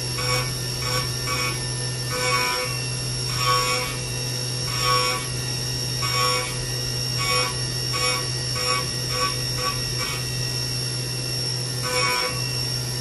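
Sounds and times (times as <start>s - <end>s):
mill spindle hum and whine: 0.0s - 13.0s.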